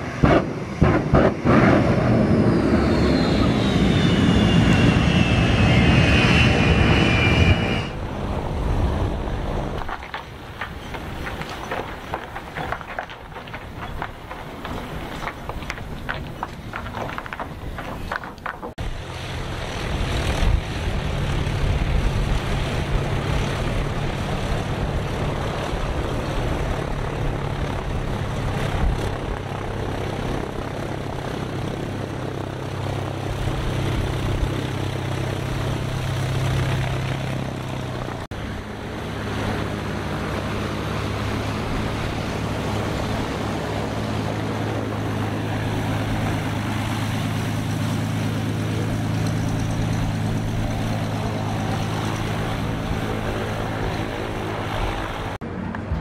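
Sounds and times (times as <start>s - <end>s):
propeller airplane engine drone: 0.0s - 56.0s.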